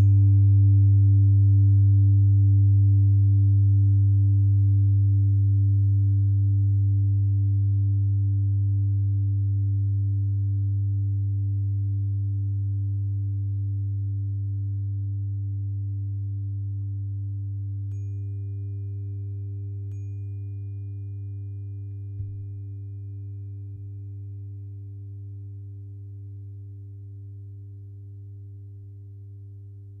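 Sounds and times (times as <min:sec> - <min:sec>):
tuning fork ringing: 0:00.0 - 0:30.0.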